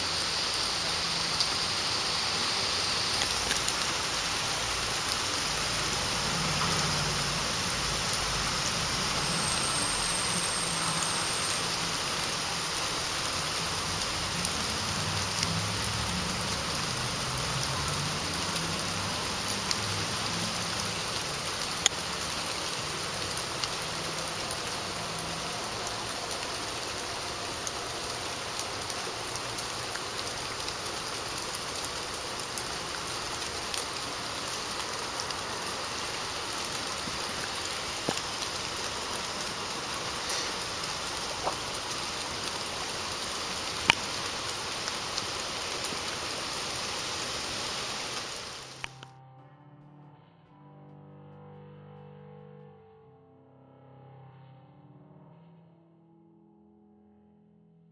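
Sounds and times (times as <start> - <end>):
light rain hissing: 0.0 - 49.0.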